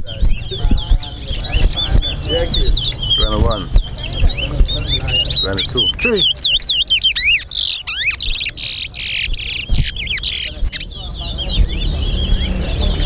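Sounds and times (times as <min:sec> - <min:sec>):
finches singing whistled notes: 0:00.0 - 0:13.0.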